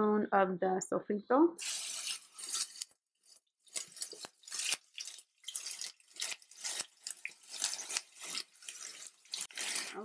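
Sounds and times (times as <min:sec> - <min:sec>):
sofrito sizzling in oil: 0:01.6 - 0:10.0
spoon spreading food in pan: 0:01.6 - 0:10.0.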